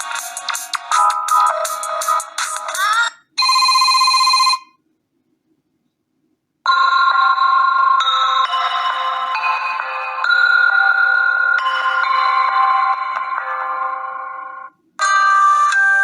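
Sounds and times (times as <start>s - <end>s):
bell-like ringtone: 0.0s - 2.6s, 3.4s - 4.7s, 6.7s - 16.0s
fast electronic ringtone: 0.0s - 4.7s, 6.7s - 16.0s.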